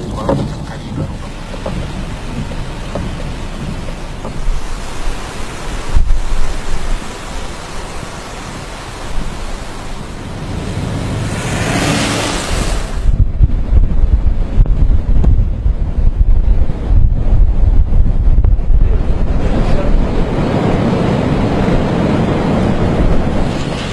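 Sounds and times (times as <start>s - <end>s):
surf breaking on shore: 0.0s - 14.2s, 17.6s - 23.9s
rain: 0.0s - 23.9s
wind blowing on microphone: 0.0s - 23.9s.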